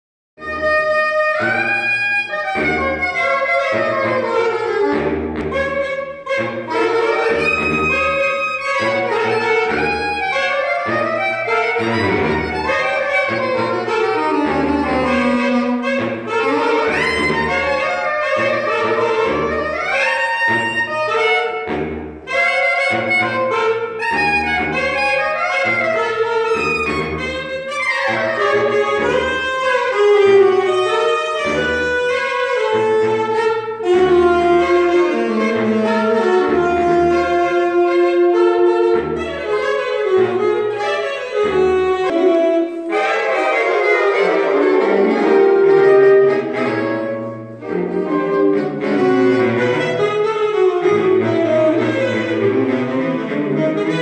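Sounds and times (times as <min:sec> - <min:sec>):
saxophone quartet playing: 0:00.4 - 0:54.0.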